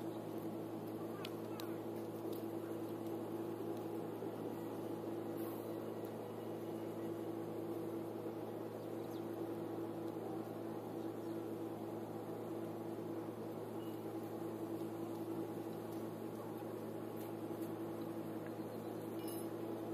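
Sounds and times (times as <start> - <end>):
motor humming steadily: 0.0 - 19.9.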